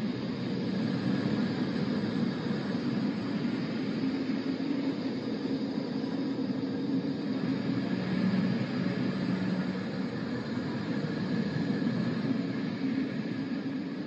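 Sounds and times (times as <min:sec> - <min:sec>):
low ambient drone: 0:00.0 - 0:14.0.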